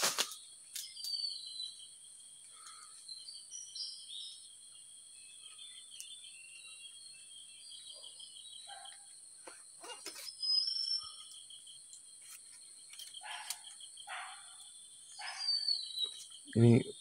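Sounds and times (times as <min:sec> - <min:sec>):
insects chirring: 0:00.0 - 0:17.0
pulsing insect trill: 0:00.0 - 0:17.0.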